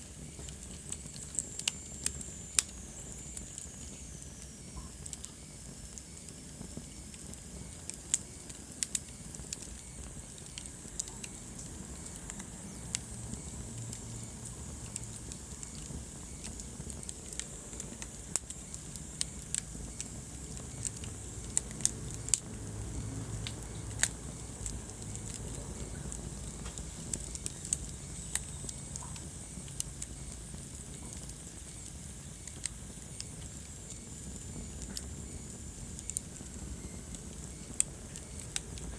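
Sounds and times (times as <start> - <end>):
fire pops and snaps: 0.0 - 38.9
low rumble of burning logs: 0.0 - 38.9.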